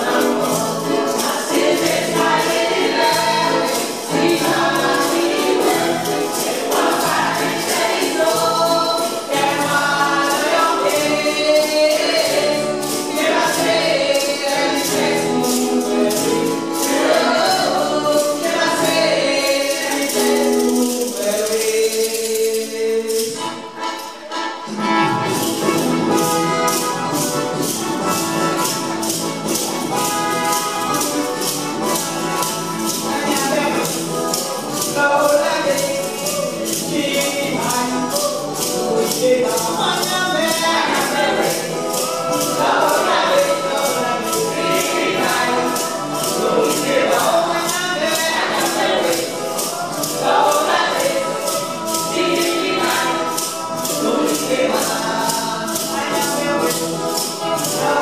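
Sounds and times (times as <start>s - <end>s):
choir singing a hymn: 0.0s - 23.3s, 25.4s - 58.0s
hand percussion beat: 0.0s - 58.0s.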